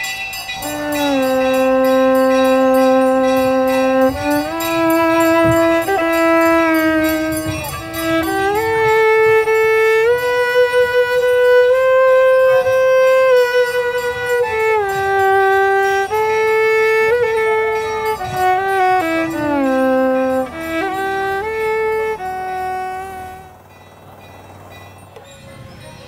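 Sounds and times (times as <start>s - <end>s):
solo violin melody: 0.6s - 23.7s.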